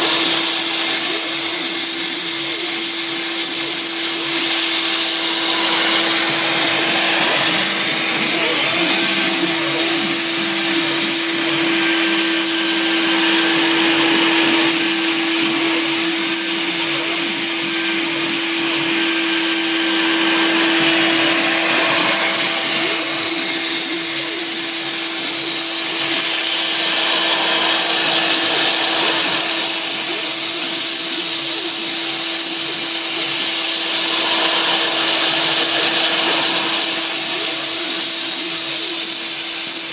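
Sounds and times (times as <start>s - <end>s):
cutter hissing through wood: 0.0s - 39.9s
milling machine spindle whine: 0.0s - 39.9s.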